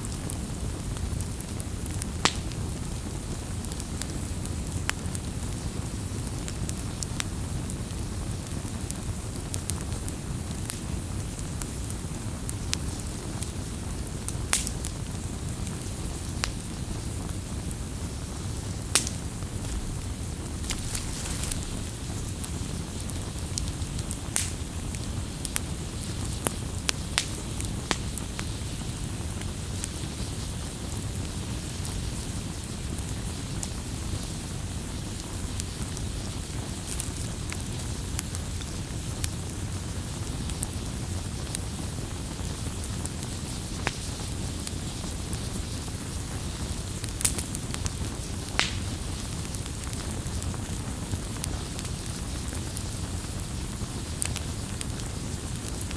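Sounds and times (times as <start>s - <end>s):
burning wood crackling and popping: 0.0s - 55.9s
flames rumbling: 0.0s - 55.9s.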